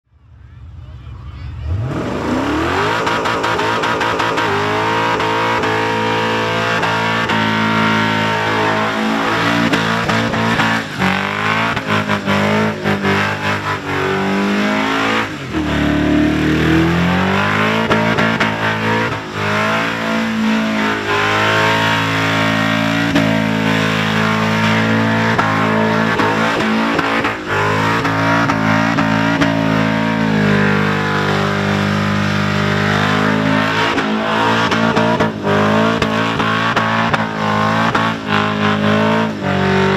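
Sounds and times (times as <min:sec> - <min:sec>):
car engine revving: 0:00.2 - 0:39.9.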